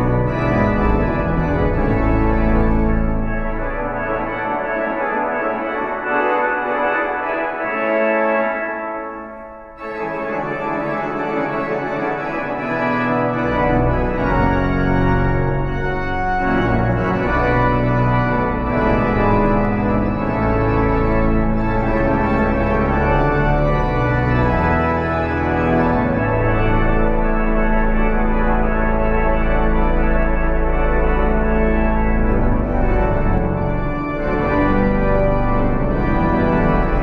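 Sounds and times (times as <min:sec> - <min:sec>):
deep organ pedal notes: 0:00.0 - 0:37.0
pipe organ chords: 0:00.0 - 0:37.0.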